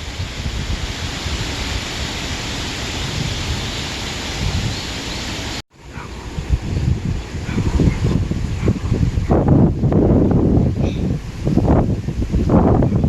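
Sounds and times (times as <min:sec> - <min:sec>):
wind buffeting microphone: 0:00.0 - 0:13.0
wind rustling through grass: 0:00.0 - 0:13.0.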